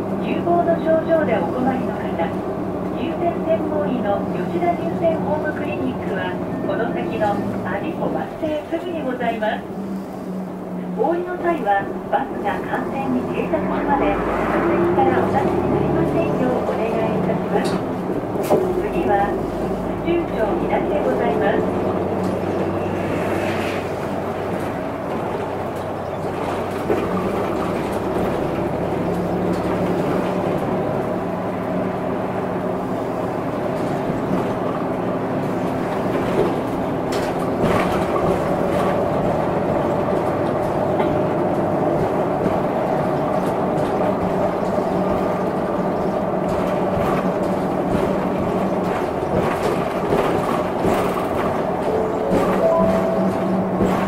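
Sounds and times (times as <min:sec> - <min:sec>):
bus engine drone from inside: 0:00.0 - 0:54.0.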